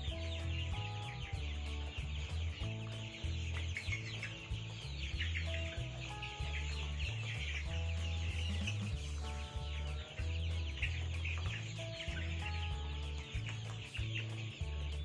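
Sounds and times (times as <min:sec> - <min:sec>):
young chickens peeping: 0:00.0 - 0:15.0.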